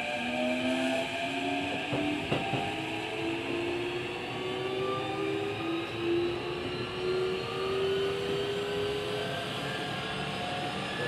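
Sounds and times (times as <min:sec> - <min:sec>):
electric train motors whining: 0:00.0 - 0:10.2
train rumbling on rails: 0:00.0 - 0:11.0.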